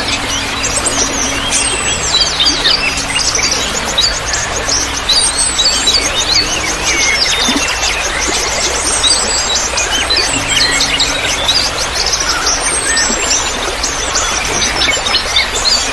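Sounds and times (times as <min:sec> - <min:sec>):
small birds chirping: 0:00.0 - 0:15.9
trickling water: 0:00.0 - 0:15.9.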